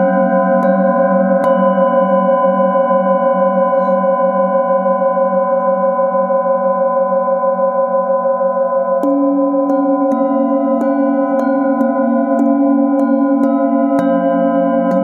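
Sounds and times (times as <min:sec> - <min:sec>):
light strokes on singing bowls: 0:00.0 - 0:15.0
singing bowls ringing: 0:00.0 - 0:15.0.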